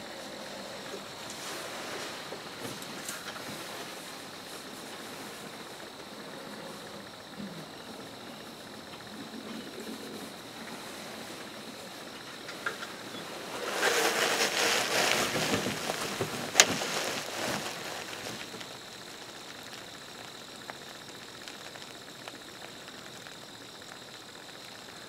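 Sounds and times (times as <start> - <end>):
rustling: 0.0 - 24.0
faint steady hiss: 0.0 - 25.0.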